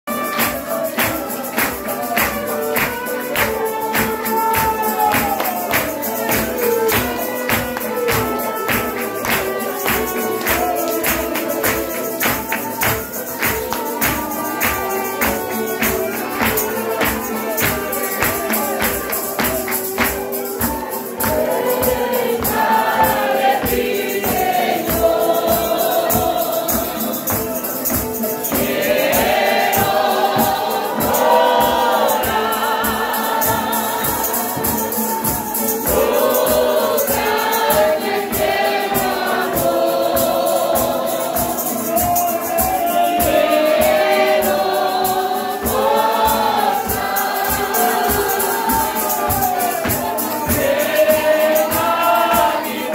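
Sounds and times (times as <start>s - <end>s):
percussion steady beat: 0.0s - 52.9s
group singing a hymn: 0.1s - 52.9s
live music: 0.1s - 52.9s.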